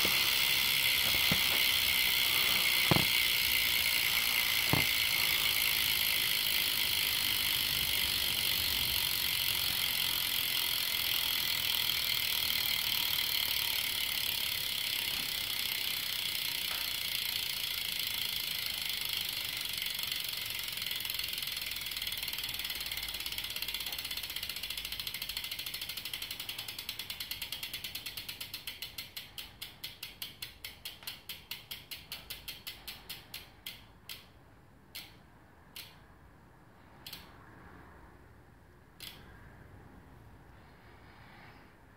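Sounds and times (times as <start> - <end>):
bicycle hub ratcheting: 0.0 - 36.1, 36.9 - 37.4, 39.0 - 39.4.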